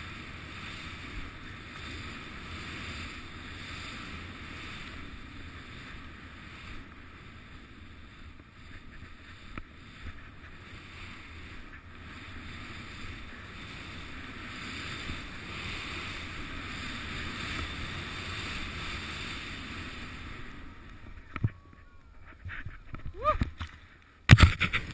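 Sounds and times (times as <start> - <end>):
skis hissing through snow: 0.0 - 21.3.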